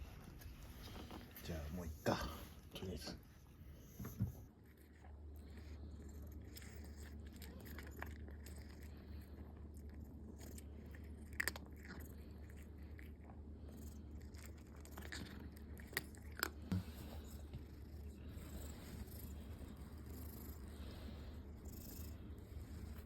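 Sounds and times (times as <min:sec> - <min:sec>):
cat chewing food: 0:04.1 - 0:23.0.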